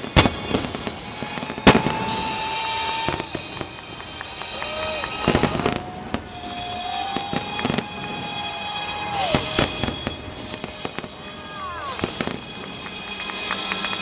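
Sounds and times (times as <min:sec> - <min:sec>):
firework bangs: 0:00.0 - 0:14.0
firework crackling: 0:00.0 - 0:14.0.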